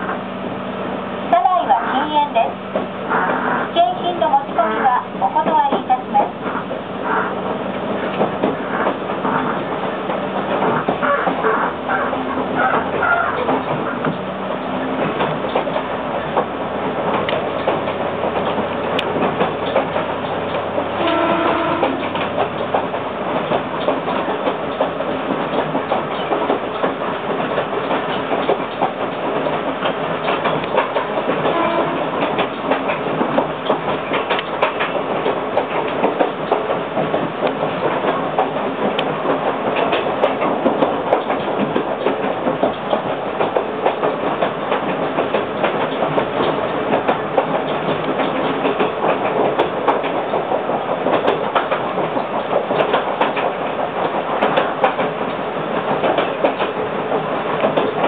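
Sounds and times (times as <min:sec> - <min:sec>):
train rumble: 0:00.0 - 0:58.0
wheels clicking over rail joints: 0:01.3 - 0:58.0.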